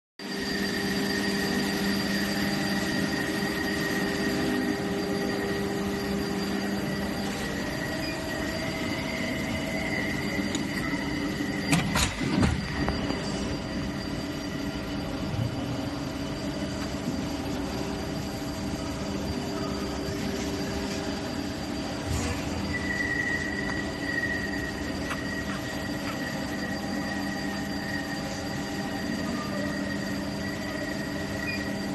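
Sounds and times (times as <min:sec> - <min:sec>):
machine mechanical hum: 0:00.2 - 0:31.9
machine whining tones: 0:00.2 - 0:31.9.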